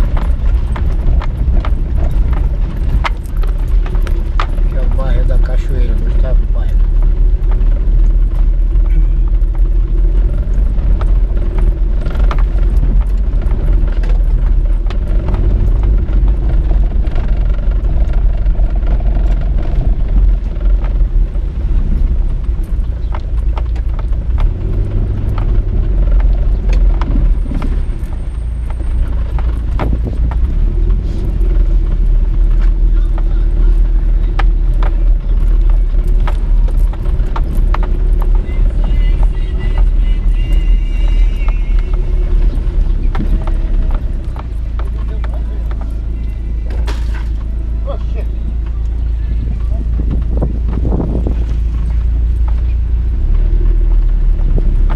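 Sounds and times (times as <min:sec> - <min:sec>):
road rumble: 0:00.0 - 0:54.9
vehicle engine drone: 0:00.0 - 0:54.9.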